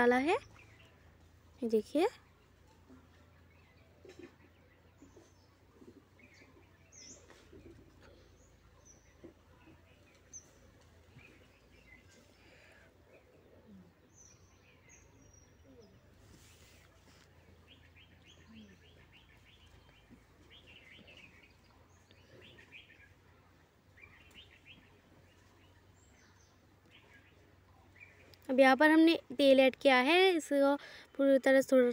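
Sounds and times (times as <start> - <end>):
low steady hum: 0.0 - 31.9
small birds chirping: 0.0 - 31.9.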